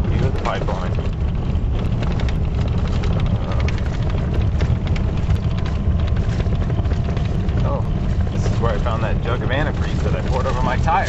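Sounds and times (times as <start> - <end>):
small knocks and rattles: 0.0 - 11.0
vehicle road and engine rumble: 0.0 - 11.0.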